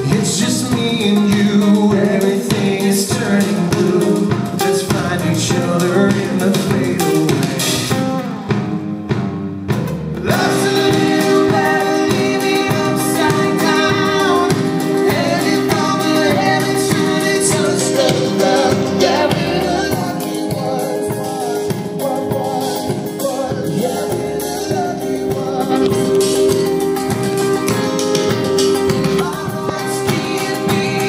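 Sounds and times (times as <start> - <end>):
man singing: 0.0 - 8.1, 10.2 - 31.0
live band playing: 0.0 - 31.0.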